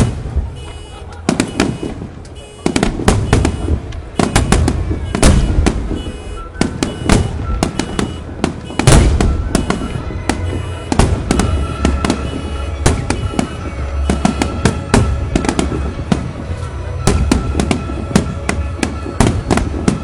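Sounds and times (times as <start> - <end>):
faint music: 0.0 - 20.0
fireworks bangs: 0.0 - 20.0.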